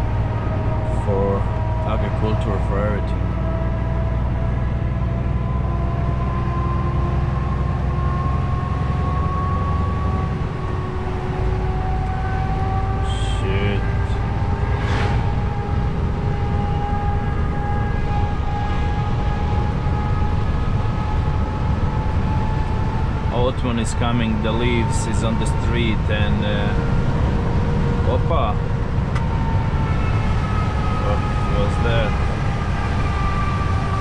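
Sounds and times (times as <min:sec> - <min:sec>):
diesel engine drone: 0:00.0 - 0:34.0
road noise: 0:00.0 - 0:34.0.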